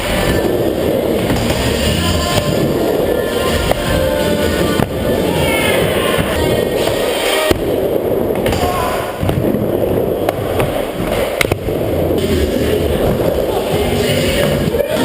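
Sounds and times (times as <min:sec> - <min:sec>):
skateboard wheels rolling: 0:00.0 - 0:15.0.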